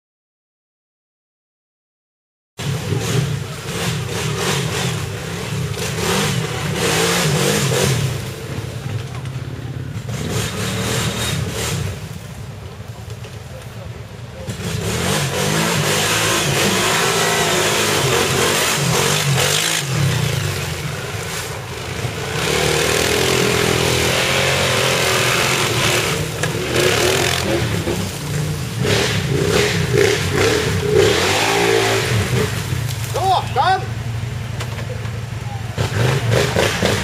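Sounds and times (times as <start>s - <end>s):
atv engine revving: 2.6s - 13.3s, 14.3s - 37.0s.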